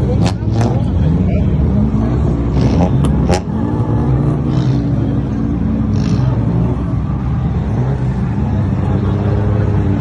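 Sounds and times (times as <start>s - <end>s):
car engine revving with loud exhaust: 0.0s - 10.0s.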